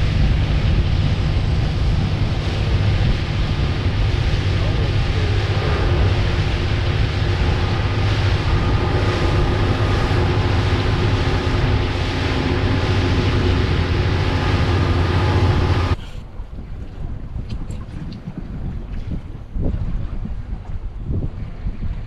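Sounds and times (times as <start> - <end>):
outboard motor running: 0.0 - 20.8
wind and water rushing over hull: 0.0 - 22.0.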